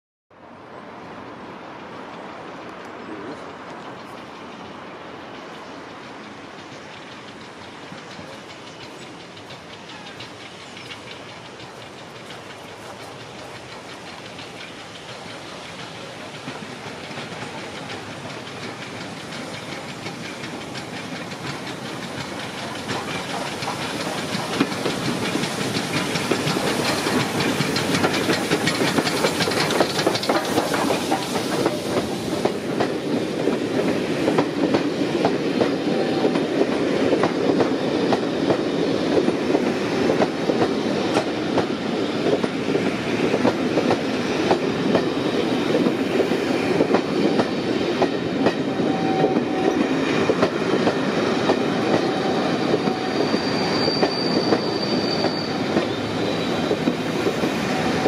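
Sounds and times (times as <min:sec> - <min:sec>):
steam train passing: 0:00.4 - 0:58.0
wheels clattering over rail joints: 0:03.5 - 0:53.0.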